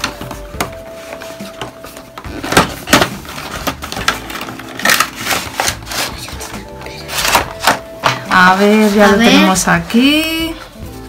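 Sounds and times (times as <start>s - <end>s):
cardboard and plastic crinkling: 0.0s - 11.0s.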